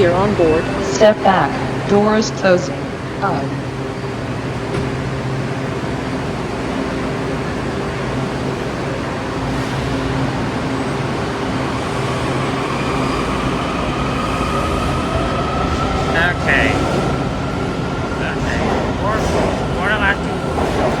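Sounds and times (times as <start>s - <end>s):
train propulsion humming: 0.0s - 21.0s.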